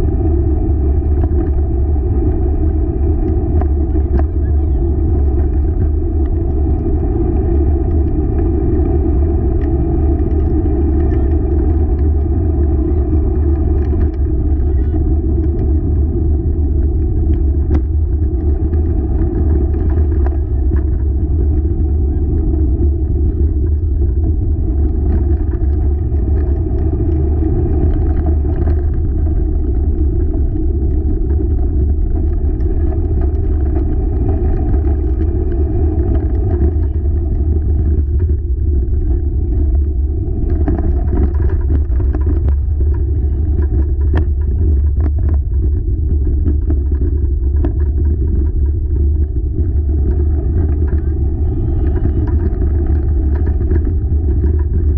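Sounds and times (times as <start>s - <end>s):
wheeled rig rolling on trail: 0.0s - 54.9s.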